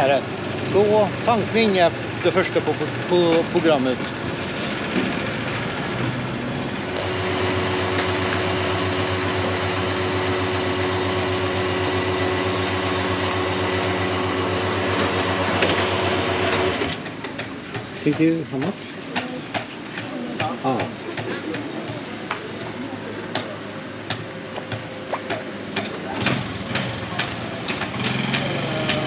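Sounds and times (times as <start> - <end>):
fuel pump humming: 0.0 - 29.0.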